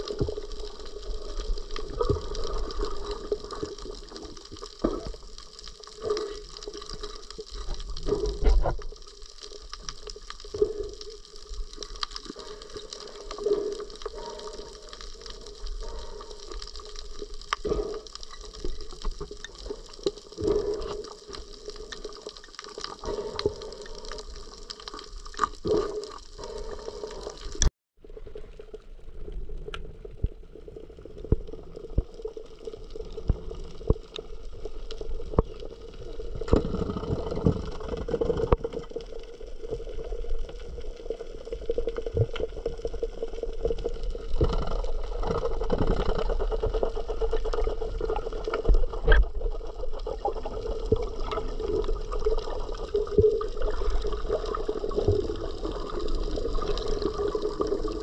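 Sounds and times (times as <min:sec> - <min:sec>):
water sloshing and bubbling: 0:00.0 - 0:58.0.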